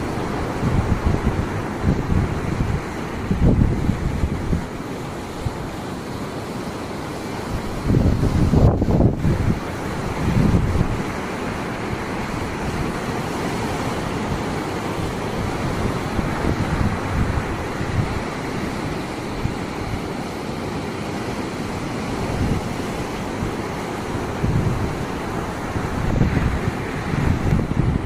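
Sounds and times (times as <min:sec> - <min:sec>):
storm surf breaking: 0:00.0 - 0:28.0
wind buffeting microphone: 0:00.0 - 0:28.0.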